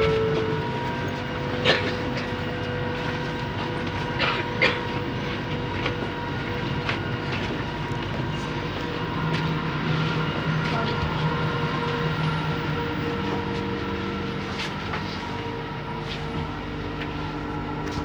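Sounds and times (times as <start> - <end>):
train running with rumble: 0.0 - 18.0.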